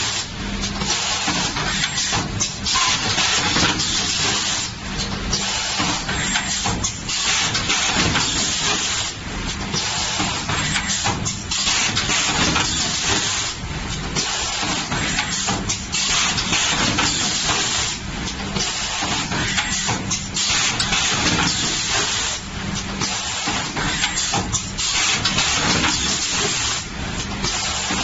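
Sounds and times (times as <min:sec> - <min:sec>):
packing machine hissing and humming: 0:00.0 - 0:28.0.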